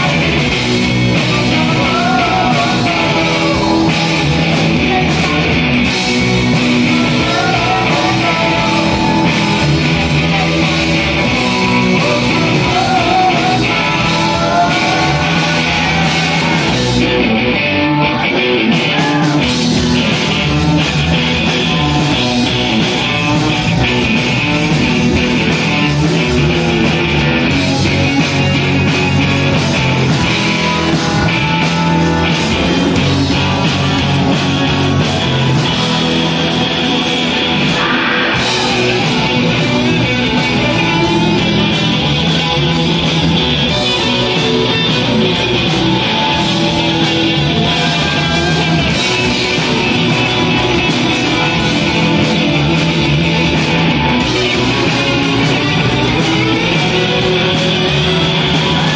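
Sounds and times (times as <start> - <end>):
bass guitar: 0.0 - 58.9
drum kit: 0.0 - 58.9
electric guitars: 0.0 - 58.9.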